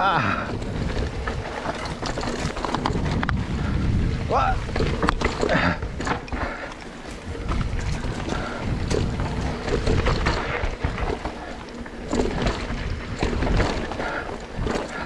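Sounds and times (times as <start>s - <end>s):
bike knocking and rattling: 0.0s - 15.0s
tyres rumbling on dirt: 0.0s - 15.0s
wind buffeting microphone: 0.0s - 15.0s.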